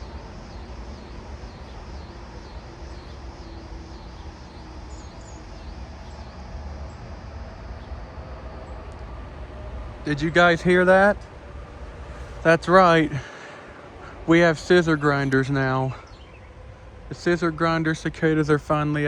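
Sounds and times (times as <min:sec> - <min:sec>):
cicada pulsing buzz: 0:00.0 - 0:19.0.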